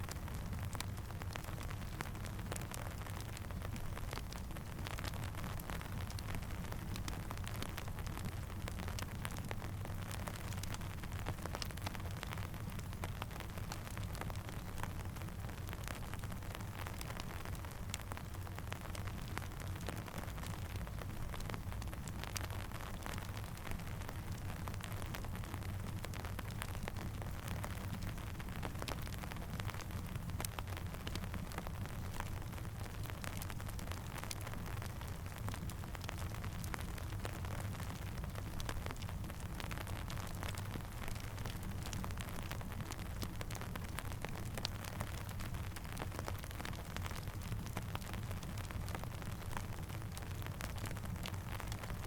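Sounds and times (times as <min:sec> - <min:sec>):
campfire crackles and pops: 0:00.0 - 0:52.0
steady rain: 0:00.0 - 0:52.0.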